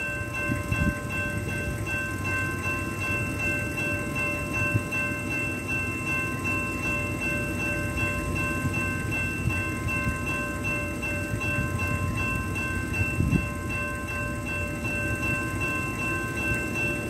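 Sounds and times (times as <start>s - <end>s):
crossing warning bell ringing: 0.0s - 17.0s.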